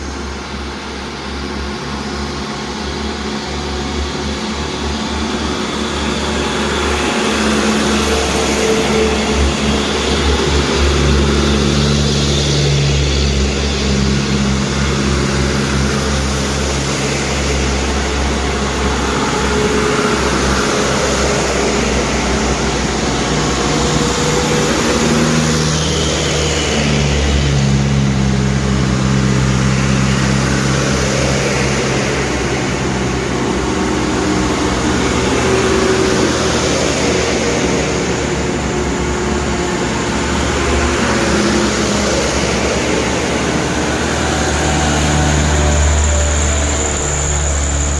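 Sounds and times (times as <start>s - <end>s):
truck diesel engines revving: 0.0s - 47.9s.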